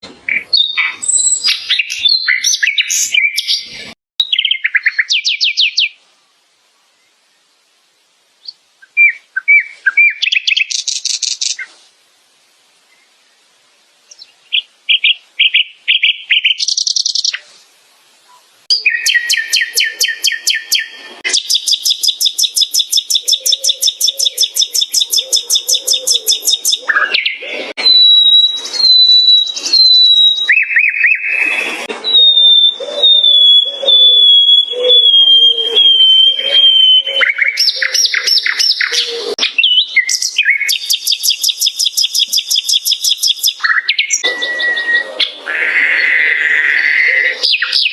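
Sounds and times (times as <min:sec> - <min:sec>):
nightingale singing: 0:00.0 - 0:06.0, 0:06.9 - 0:11.8, 0:12.8 - 0:17.6, 0:18.3 - 0:47.9.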